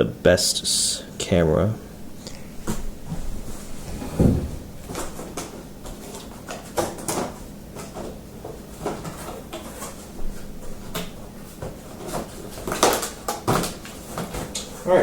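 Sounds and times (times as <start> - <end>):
cardboard packaging rustling: 2.1 - 14.6.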